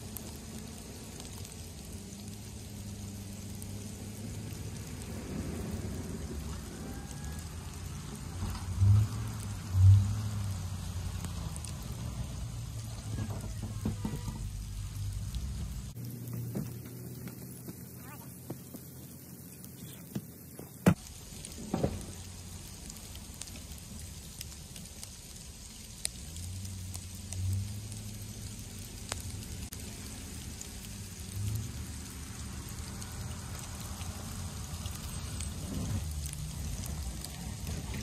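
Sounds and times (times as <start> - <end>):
truck engine droning: 0.0 - 38.0
wet hail pattering: 0.0 - 38.0.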